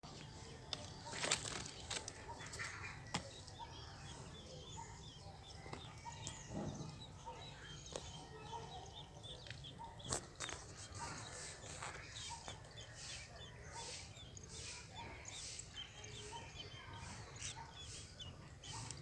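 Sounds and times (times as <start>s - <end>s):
nestling birds cheeping: 0.1s - 19.0s.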